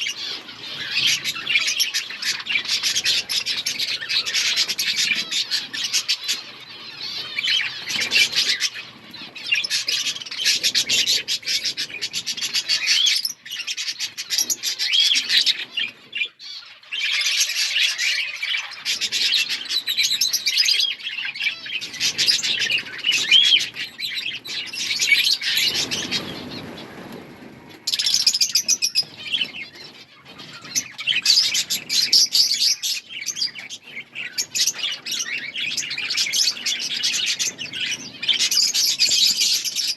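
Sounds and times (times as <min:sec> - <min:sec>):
budgerigars chirping: 0:00.0 - 0:27.1, 0:27.9 - 0:39.9.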